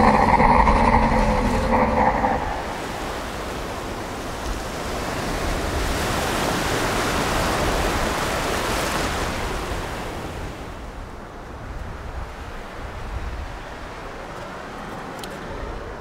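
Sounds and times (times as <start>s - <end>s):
waves breaking on shore: 0.0s - 15.4s.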